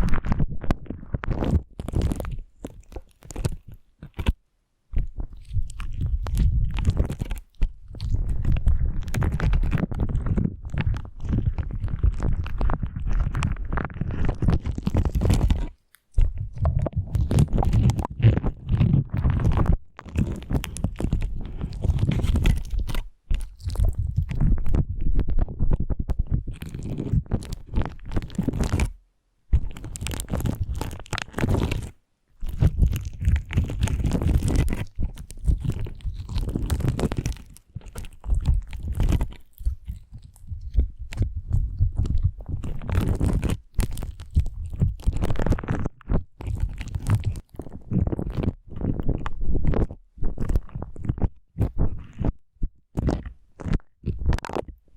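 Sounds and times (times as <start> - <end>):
slime squelching: 0.0 - 54.9.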